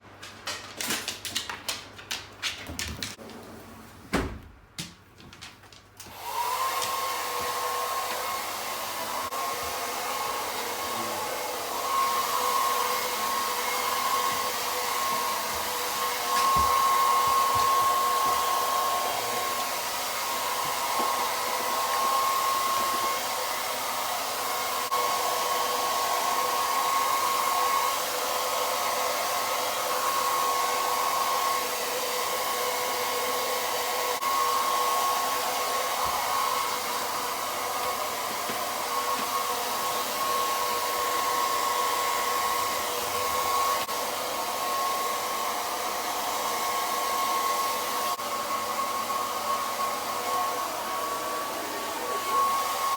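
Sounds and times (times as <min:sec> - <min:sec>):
hair dryer blowing with whine: 0:06.0 - 0:52.9.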